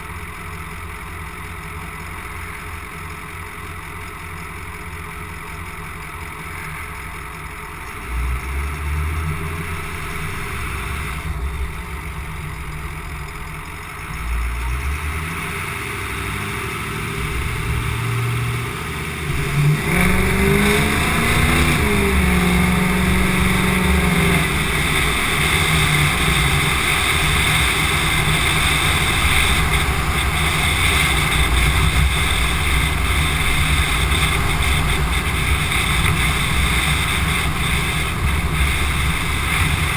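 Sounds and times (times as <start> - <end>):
diesel truck engine idling and revving: 0.0 - 39.9
wind and road noise: 0.0 - 39.9.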